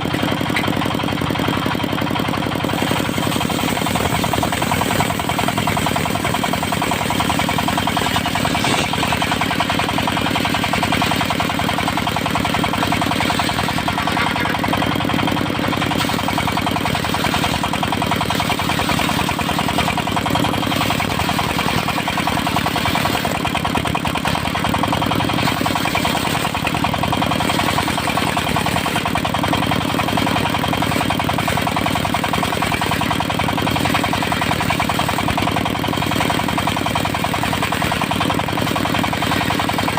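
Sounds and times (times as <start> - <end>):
sawmill engine knocking: 0.0 - 39.9.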